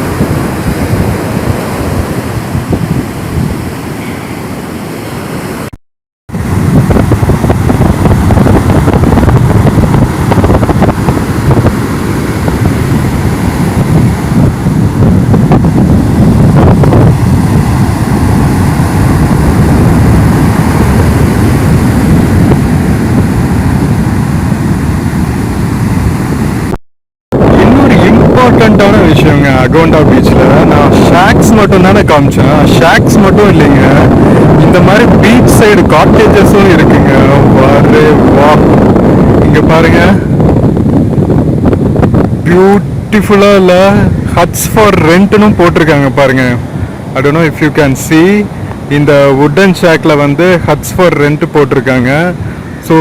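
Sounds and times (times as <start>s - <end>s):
surf breaking on beach: 0.0s - 5.7s, 6.3s - 53.0s
wind buffeting microphone: 0.0s - 5.7s, 6.3s - 53.0s.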